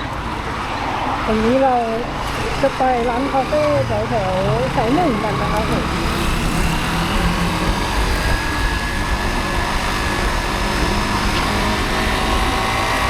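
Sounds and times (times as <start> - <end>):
motorcycle running: 0.0 - 13.0
road and wind noise: 0.0 - 13.0.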